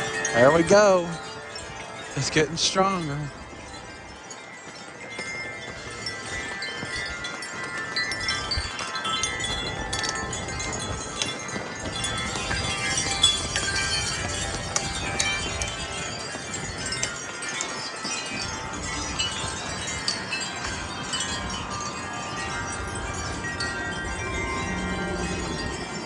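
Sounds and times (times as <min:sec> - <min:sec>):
low rumble of wind: 0:00.0 - 0:26.0
wind chimes ringing: 0:00.0 - 0:26.0.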